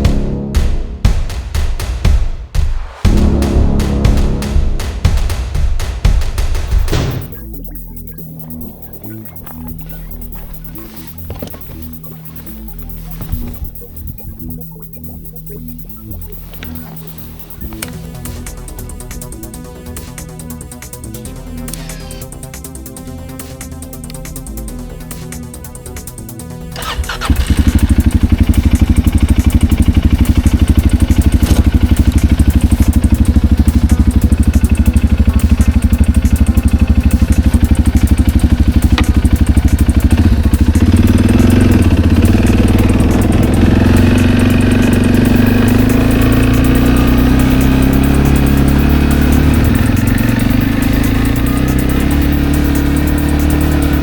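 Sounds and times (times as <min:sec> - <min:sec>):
engine running with rapid pulse: 0:00.0 - 0:02.2, 0:03.0 - 0:54.0.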